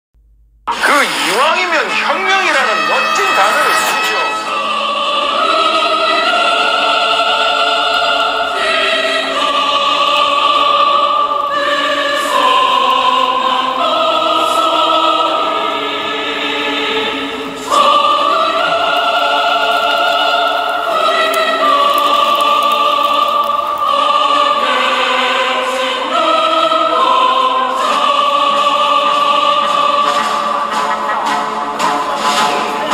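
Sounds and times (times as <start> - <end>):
choir singing: 0.7 - 32.9.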